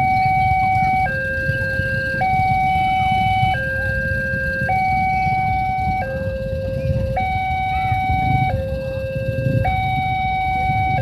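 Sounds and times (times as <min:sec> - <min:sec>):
level crossing two-tone alarm: 0:00.0 - 0:11.0
steady low rumble: 0:00.0 - 0:11.0.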